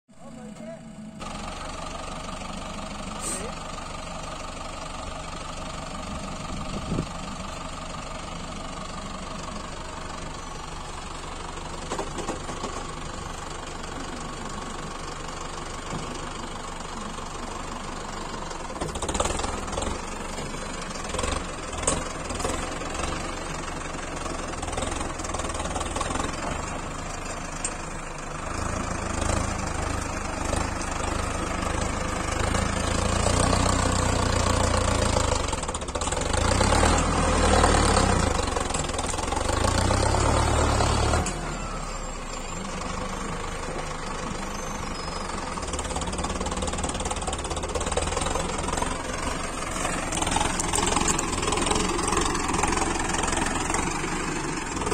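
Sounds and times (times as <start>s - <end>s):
tractor diesel engine knocking: 0.1s - 54.9s.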